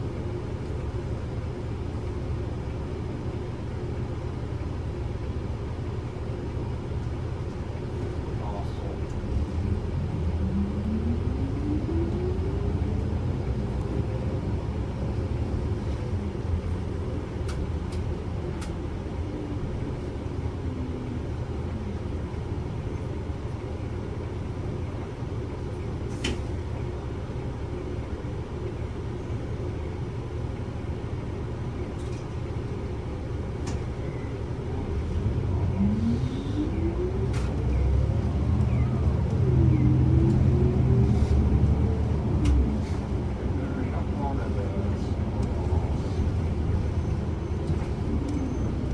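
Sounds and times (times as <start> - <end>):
bus engine and road rumble: 0.0 - 48.9
rising whine of bus: 0.0 - 48.9.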